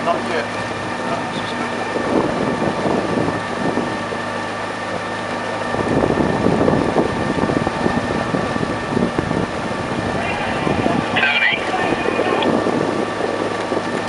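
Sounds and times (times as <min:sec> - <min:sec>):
motor droning: 0:00.0 - 0:14.0
wind rumbling on microphone: 0:00.0 - 0:14.0.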